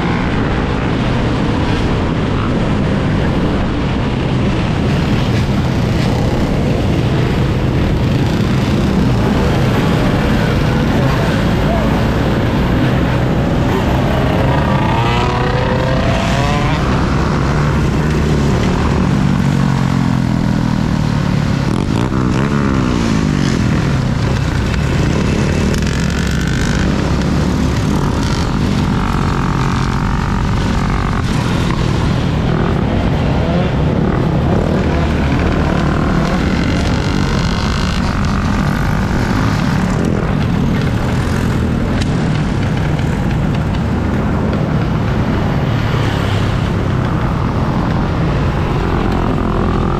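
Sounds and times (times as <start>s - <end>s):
electric dirt bike riding: 0.0s - 49.9s
passing vehicles: 0.0s - 49.9s.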